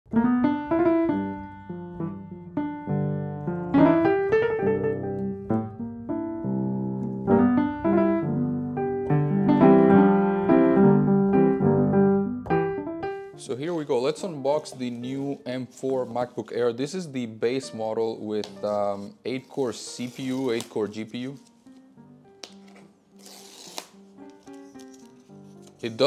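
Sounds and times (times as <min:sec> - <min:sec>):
piano music: 0:00.1 - 0:26.0.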